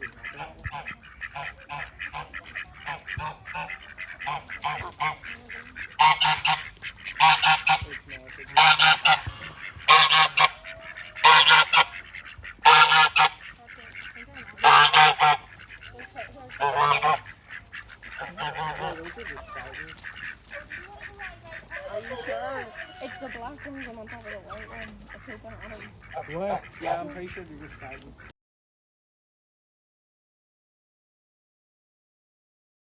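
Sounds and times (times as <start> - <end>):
goose honking: 0.0 - 28.3.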